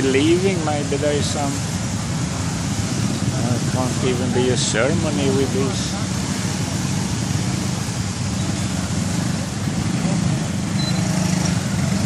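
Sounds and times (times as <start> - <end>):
scooter engines droning: 0.0 - 12.0.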